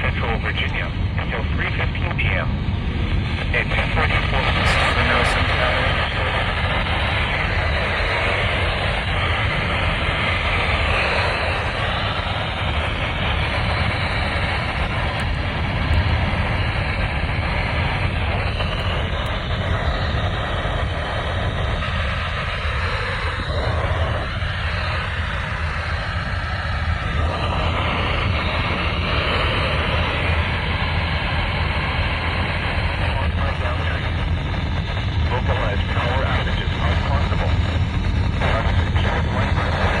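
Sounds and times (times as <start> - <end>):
radio static hiss: 0.0 - 40.0.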